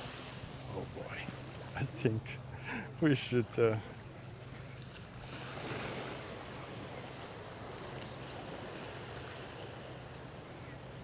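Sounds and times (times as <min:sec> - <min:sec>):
small waves washing onto sand: 0:00.0 - 0:11.0.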